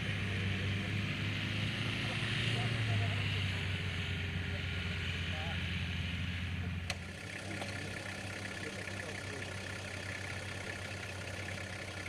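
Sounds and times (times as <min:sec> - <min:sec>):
engine idling low hum: 0:00.0 - 0:12.0.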